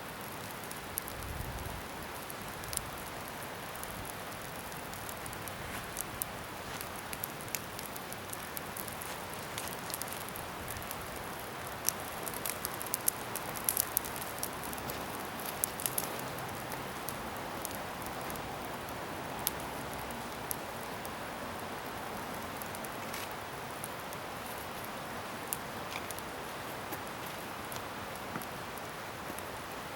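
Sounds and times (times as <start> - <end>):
bonfire hissing and crackling: 0.0 - 29.9.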